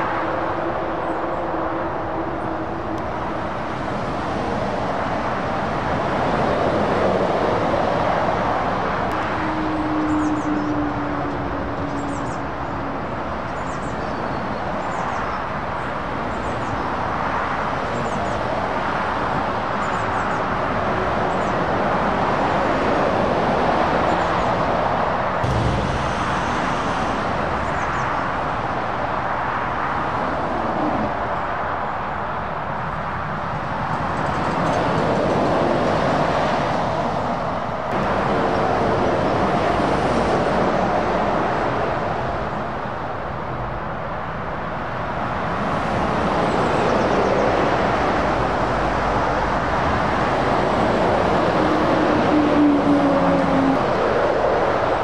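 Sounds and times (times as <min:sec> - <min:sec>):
motorway traffic roar: 0:00.0 - 0:55.0.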